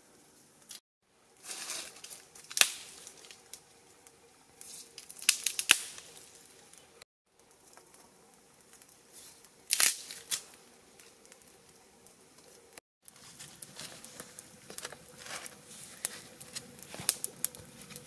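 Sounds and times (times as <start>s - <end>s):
burning sticks snapping: 1.4s - 18.0s.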